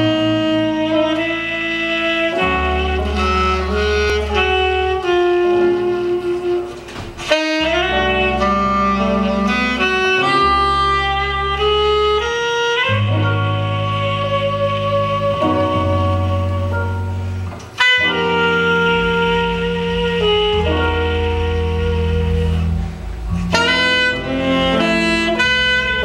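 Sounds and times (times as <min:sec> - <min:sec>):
low electric bass notes: 0:00.0 - 0:26.0
saxophone playing jazz melody: 0:00.0 - 0:26.0.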